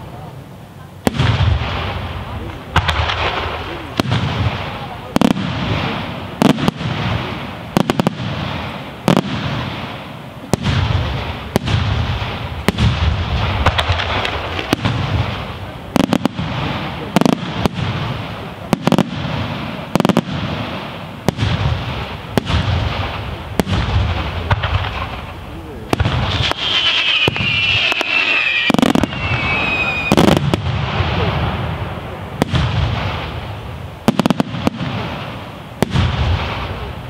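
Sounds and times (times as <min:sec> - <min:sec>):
fireworks bangs: 0:00.0 - 0:37.0.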